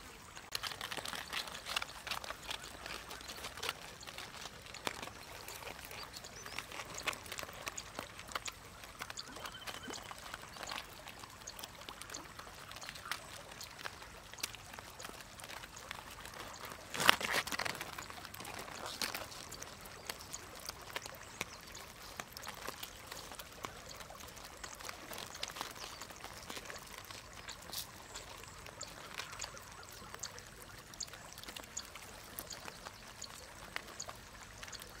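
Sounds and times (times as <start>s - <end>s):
shrimp and crabs crackling: 0.0s - 35.0s
water trickling and dripping: 0.0s - 35.0s.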